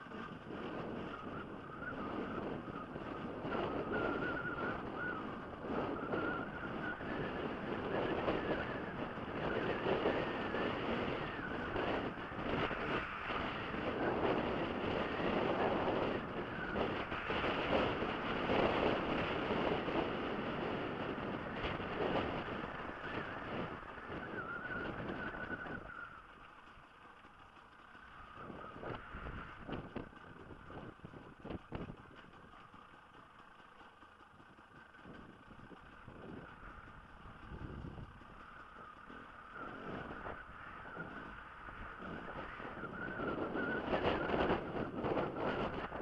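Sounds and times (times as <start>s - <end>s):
motorcycle engine working hard: 0.0s - 46.0s
wind buffeting microphone: 0.0s - 46.0s.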